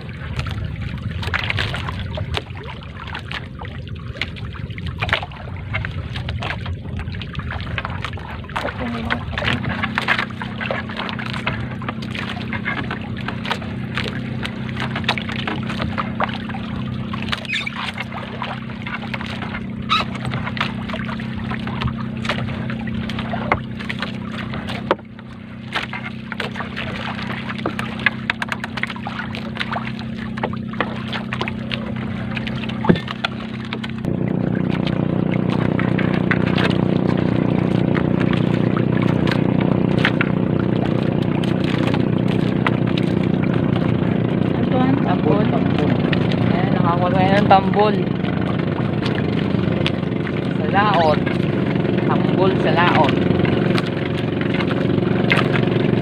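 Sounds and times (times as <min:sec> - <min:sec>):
boat engine running: 0:00.0 - 0:56.0
water splashing and dripping: 0:00.0 - 0:56.0.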